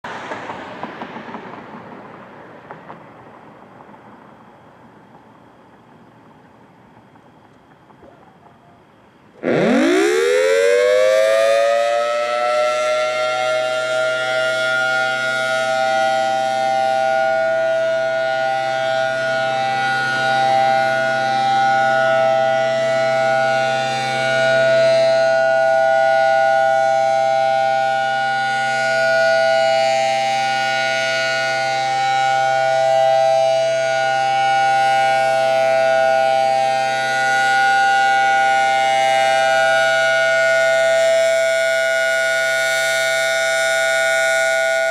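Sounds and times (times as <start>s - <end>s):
warning siren wailing: 8.8s - 44.9s.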